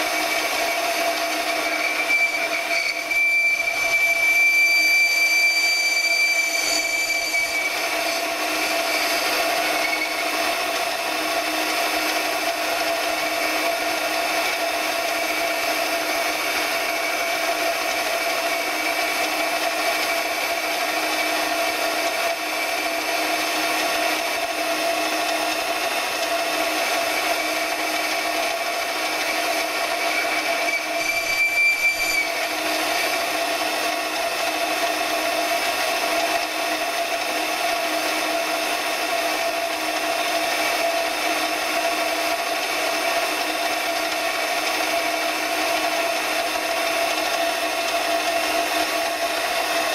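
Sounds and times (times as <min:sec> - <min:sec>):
metal lathe humming and whining: 0:00.0 - 0:49.9.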